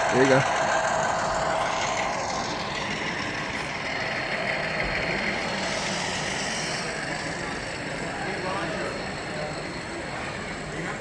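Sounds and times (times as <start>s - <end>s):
busy hall crowd noise: 0.0s - 11.0s
model locomotive diesel engine sound: 0.0s - 11.0s.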